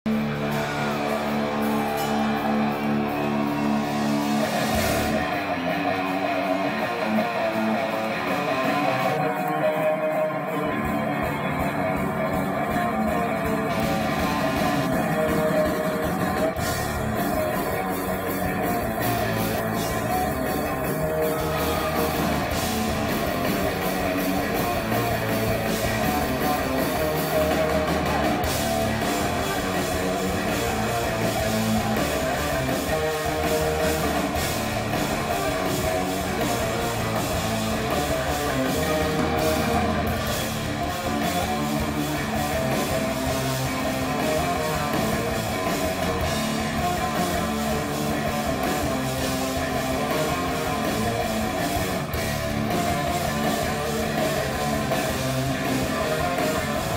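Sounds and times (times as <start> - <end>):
hard rock band playing live: 0.0 - 56.9.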